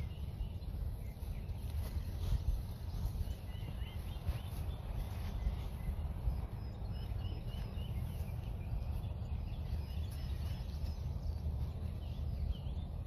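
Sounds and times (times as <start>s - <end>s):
faint birds chirping: 0.0s - 13.0s
wind noise on microphone: 0.0s - 13.0s.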